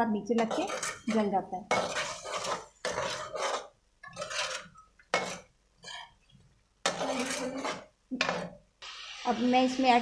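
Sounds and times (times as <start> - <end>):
metal ladle scraping a pot: 0.4 - 8.5.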